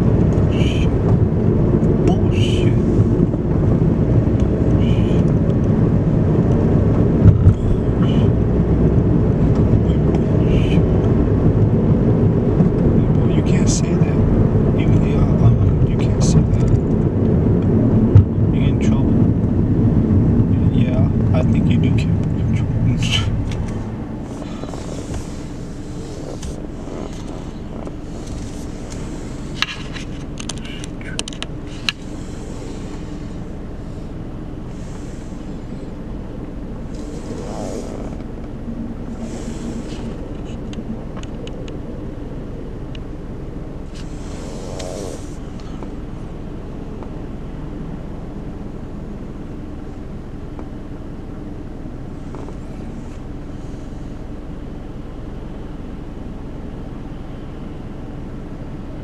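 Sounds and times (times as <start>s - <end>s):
traffic swishing past: 0.0s - 51.2s
car engine idling: 0.0s - 59.0s.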